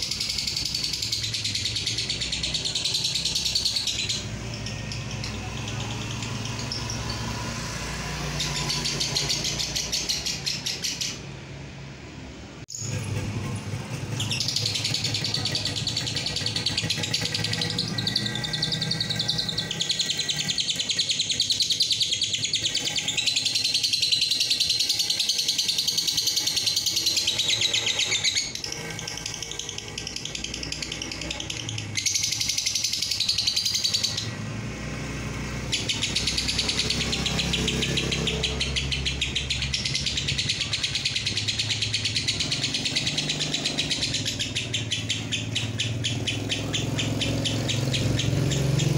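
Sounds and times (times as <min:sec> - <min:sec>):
lovebird rapid trill: 0:00.0 - 0:11.6, 0:12.7 - 0:48.9.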